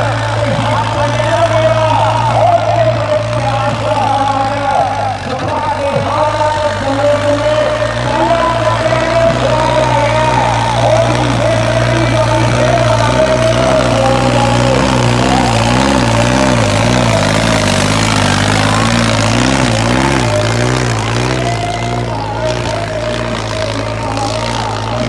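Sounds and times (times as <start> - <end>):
diesel tractor engine under heavy load: 0.0 - 25.0.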